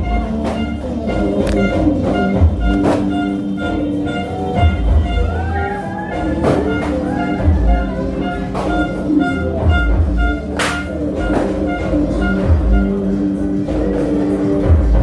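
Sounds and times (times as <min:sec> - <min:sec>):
loud music through speaker: 0:00.0 - 0:15.0.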